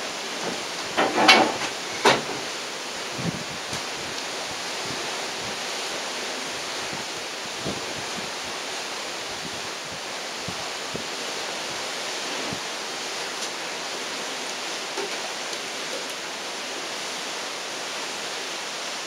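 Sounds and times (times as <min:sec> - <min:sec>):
wind and water rushing past ship: 0:00.0 - 0:19.0.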